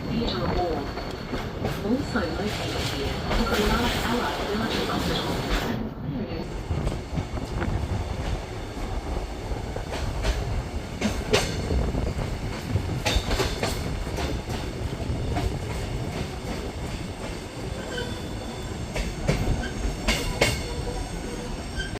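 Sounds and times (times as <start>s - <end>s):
train rumble on rails: 0.0s - 21.9s.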